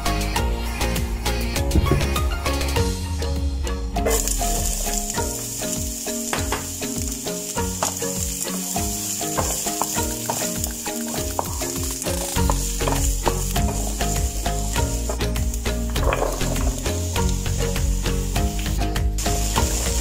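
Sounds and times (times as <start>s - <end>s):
onion sizzling in oil: 0.0s - 3.3s, 4.0s - 20.0s
background music: 0.0s - 20.0s.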